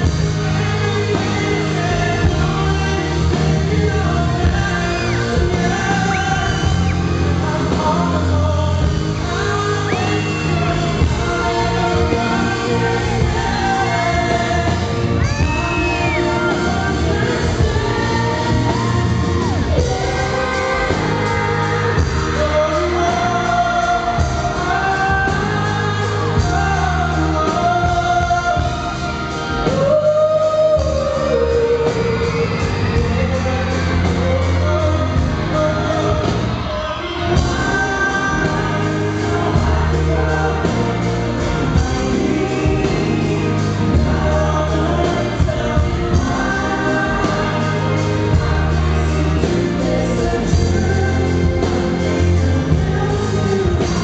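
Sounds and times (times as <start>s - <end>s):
backing band playing: 0.0s - 54.0s
man singing into microphone: 0.0s - 54.0s.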